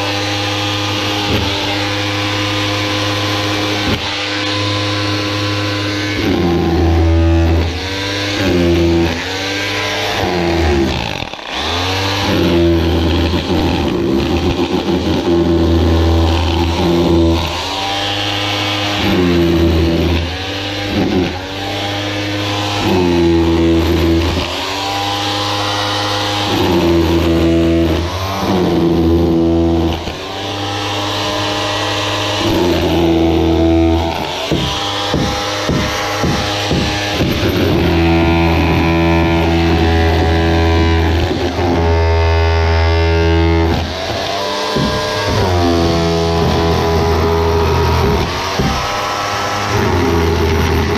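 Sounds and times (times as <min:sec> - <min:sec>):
hammer drill chiselling concrete: 0:00.0 - 0:50.9.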